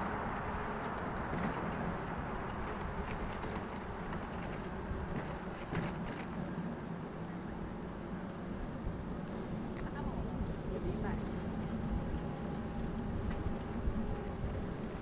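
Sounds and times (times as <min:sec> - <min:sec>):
wind and tyre noise: 0:00.0 - 0:15.0.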